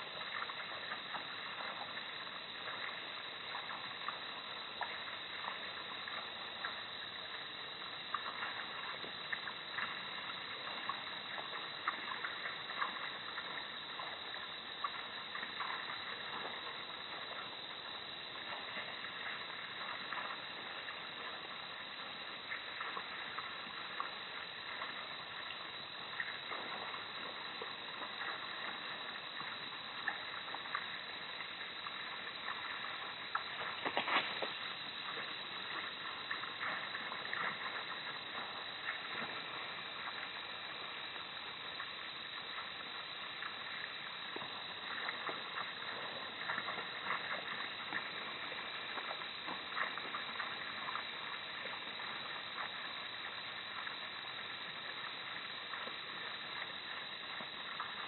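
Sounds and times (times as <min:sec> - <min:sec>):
constant hiss: 0:00.0 - 0:58.0.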